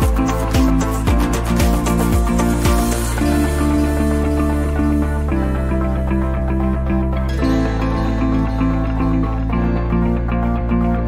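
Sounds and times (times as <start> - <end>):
instrumental music with sustained chords: 0.0 - 11.0.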